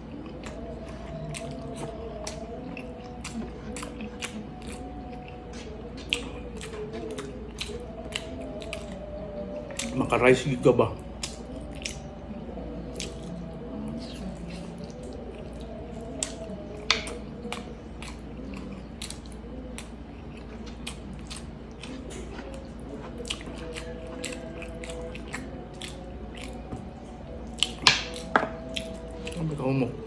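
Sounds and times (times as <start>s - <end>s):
chewing with wet mouth clicks: 0.0s - 29.7s.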